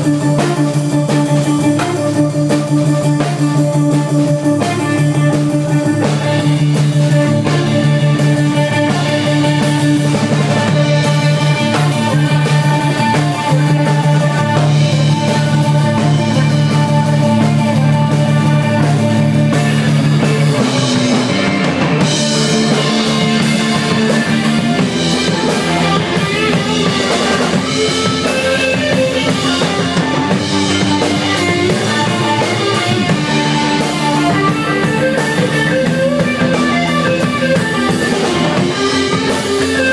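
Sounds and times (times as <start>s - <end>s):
rock band playing loud: 0.0s - 39.9s.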